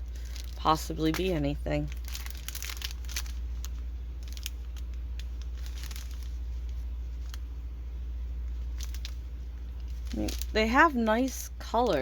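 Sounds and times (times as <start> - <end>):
low electrical hum: 0.0 - 12.0
plastic packaging crinkling: 0.0 - 12.0.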